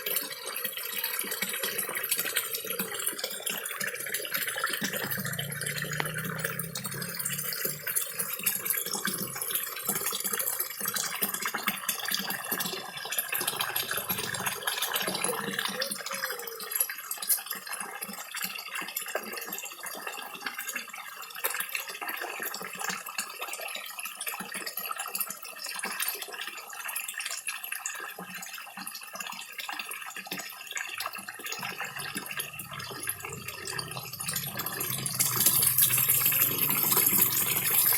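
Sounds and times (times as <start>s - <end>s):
small waterfall trickling: 0.0s - 37.9s.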